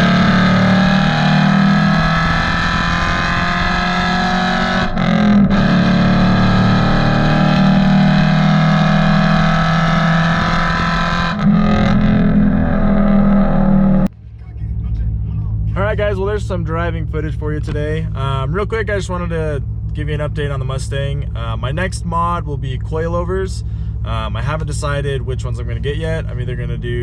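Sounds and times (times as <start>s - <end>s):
car engine exhaust drone: 0.0s - 27.0s.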